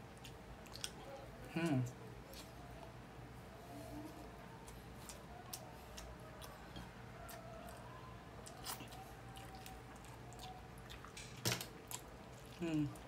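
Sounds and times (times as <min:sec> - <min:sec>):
person chewing food: 0:00.0 - 0:02.8, 0:04.0 - 0:13.0.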